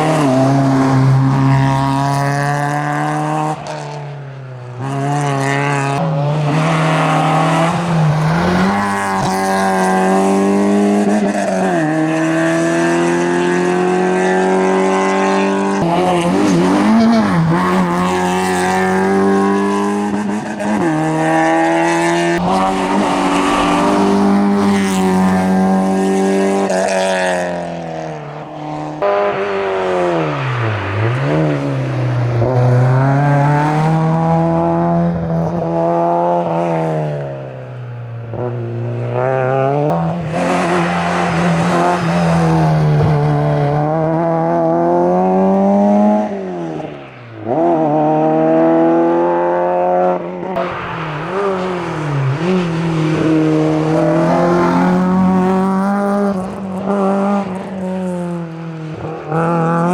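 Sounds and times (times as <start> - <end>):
race car engine revving hard: 4.8 - 37.4, 38.2 - 59.9.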